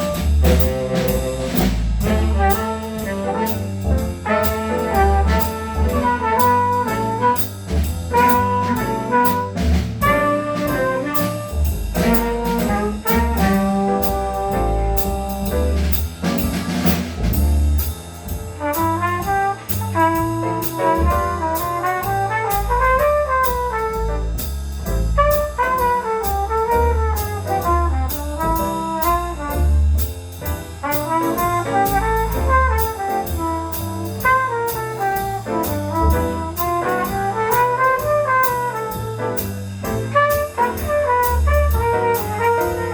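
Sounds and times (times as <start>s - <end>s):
bass line: 0.0s - 42.9s
cymbal and drum strokes: 0.0s - 42.9s
jazz band with brass: 0.0s - 42.9s.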